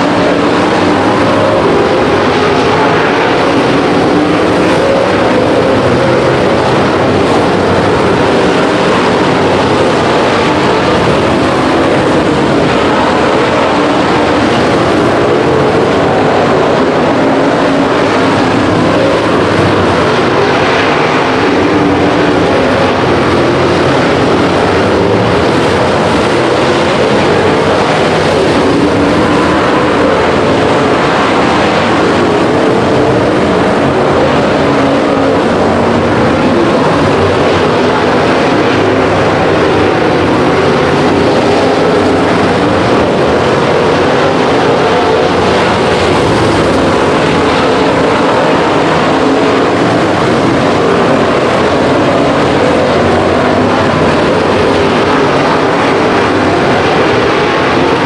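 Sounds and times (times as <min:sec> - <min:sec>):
race car engines at speed: 0:00.0 - 0:58.0.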